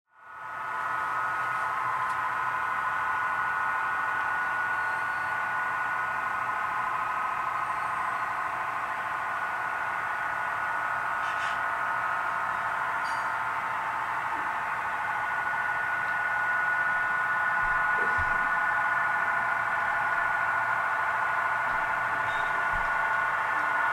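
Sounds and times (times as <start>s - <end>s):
model train droning hum: 0.1s - 23.9s.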